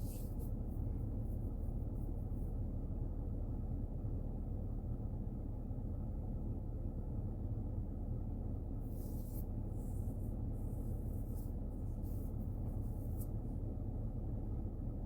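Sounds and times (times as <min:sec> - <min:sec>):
car engine drone from inside: 0:00.0 - 0:15.0.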